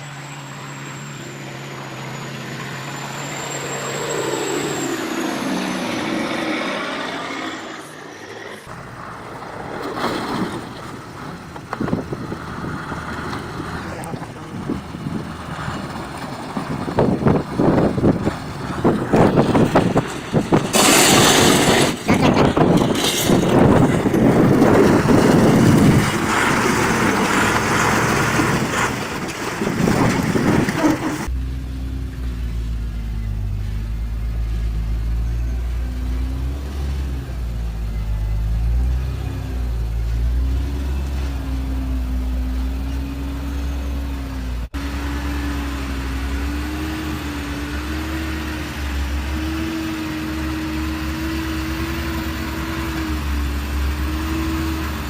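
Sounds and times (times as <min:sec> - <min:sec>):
low engine hum: 0:00.0 - 0:55.0
rushing road noise: 0:00.0 - 0:55.0.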